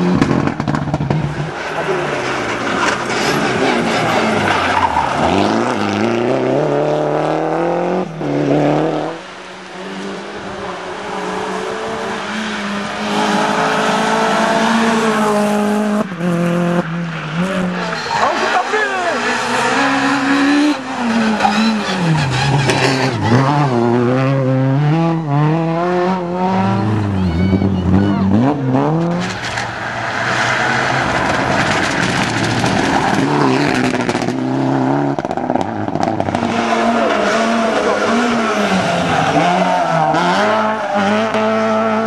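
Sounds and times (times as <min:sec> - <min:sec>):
rally car engine accelerating: 0:00.0 - 0:42.0.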